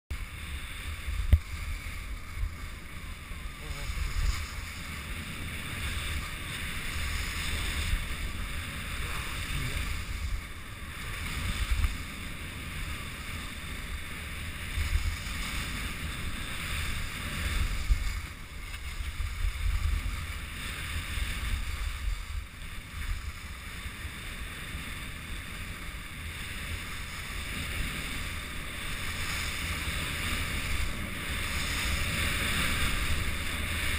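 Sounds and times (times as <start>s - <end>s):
wind buffeting microphone: 0.1s - 33.9s
skis scraping on snow: 0.2s - 33.9s.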